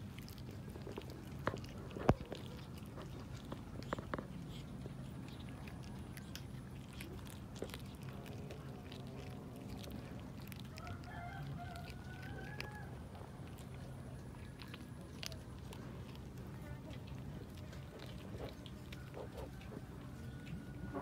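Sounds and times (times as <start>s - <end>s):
cat chewing wet clicks: 0.0s - 21.0s.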